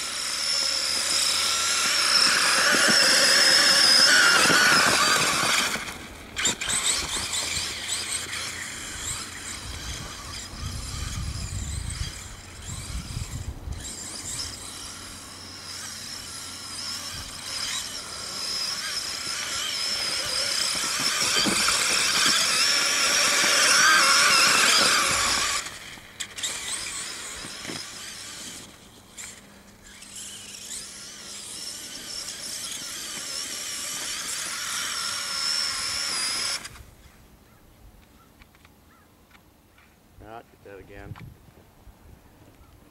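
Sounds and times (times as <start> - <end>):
toy truck motor whining: 0.0 - 37.2
tyres churning through snow: 0.0 - 37.2.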